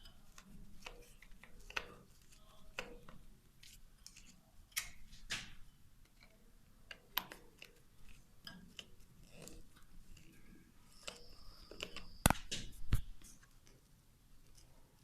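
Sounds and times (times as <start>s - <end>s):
faint clicks and light knocks: 0.0s - 15.0s.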